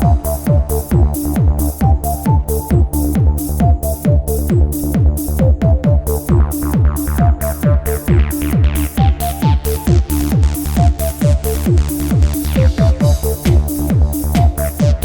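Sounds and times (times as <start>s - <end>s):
trance dance music: 0.0s - 15.0s.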